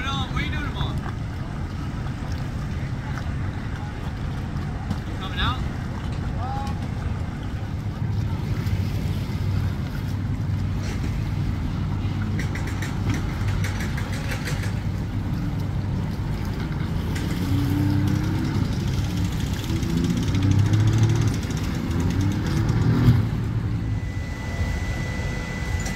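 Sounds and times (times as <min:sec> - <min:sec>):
watercraft engine revving: 0:00.0 - 0:25.9.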